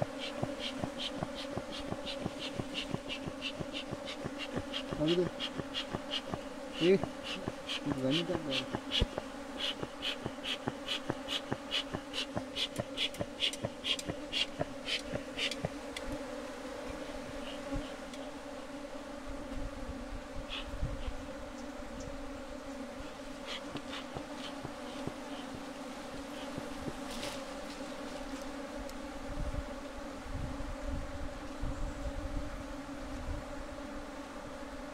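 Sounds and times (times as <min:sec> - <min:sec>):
honeybees buzzing: 0:00.0 - 0:34.9.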